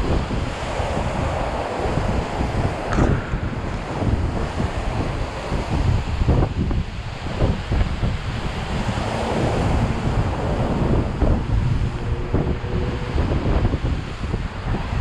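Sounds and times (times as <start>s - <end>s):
heavy ocean surf: 0.0s - 15.0s
wind buffeting microphone: 0.0s - 15.0s.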